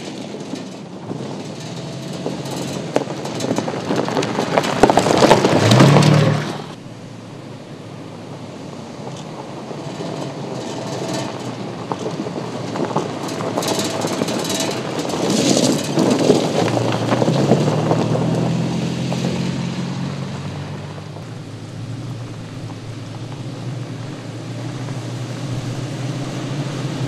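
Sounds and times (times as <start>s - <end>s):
pickup engine running: 0.0s - 27.0s
tyres crunching on gravel: 0.0s - 27.0s.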